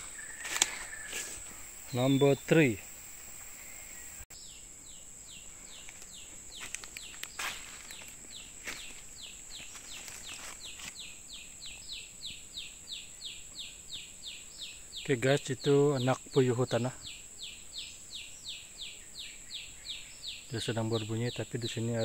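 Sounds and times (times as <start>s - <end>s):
steady high-pitched whine: 0.0s - 22.0s.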